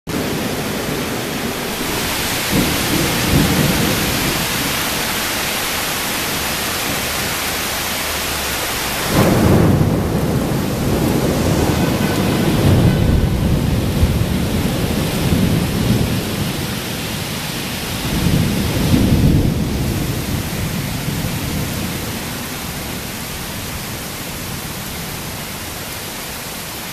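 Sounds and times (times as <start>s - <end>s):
thunder rumbling: 0.1s - 25.4s
heavy rain falling: 0.1s - 26.9s.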